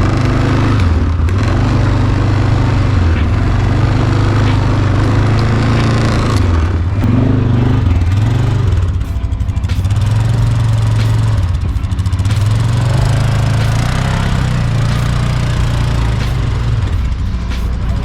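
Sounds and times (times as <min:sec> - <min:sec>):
background music: 0:00.0 - 0:18.0
vehicle engine running: 0:00.0 - 0:18.0.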